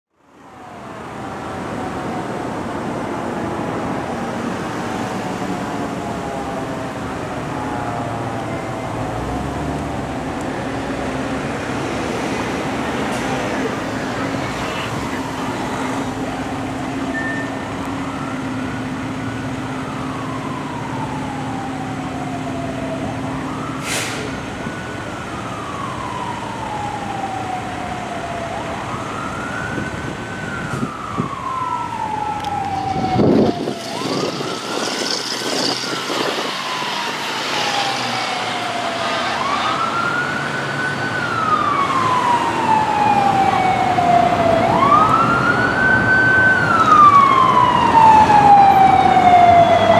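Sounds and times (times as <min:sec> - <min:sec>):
fire truck siren wailing: 0:00.2 - 0:49.9.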